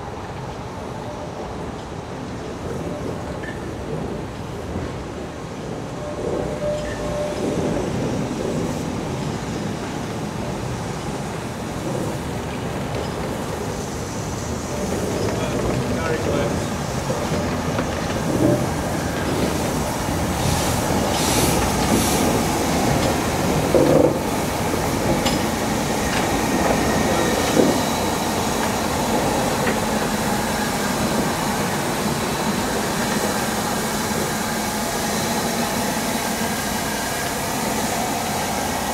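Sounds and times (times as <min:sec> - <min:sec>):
steam locomotive hissing steam: 0:05.7 - 0:38.9.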